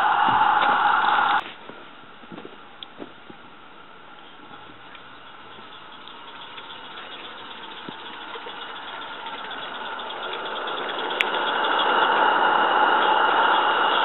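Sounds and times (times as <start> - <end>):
small steam locomotive running: 0.0 - 1.4, 4.2 - 14.0.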